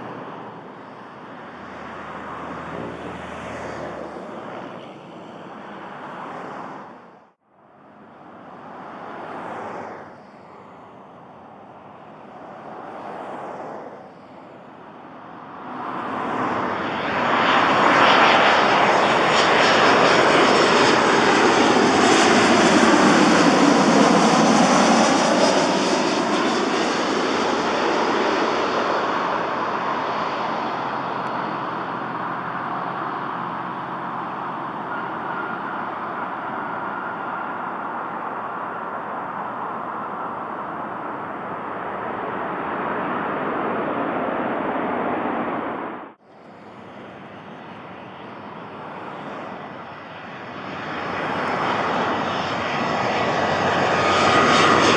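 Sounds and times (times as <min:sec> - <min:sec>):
jet engine roar passing: 0:00.0 - 0:07.2, 0:08.3 - 0:54.9.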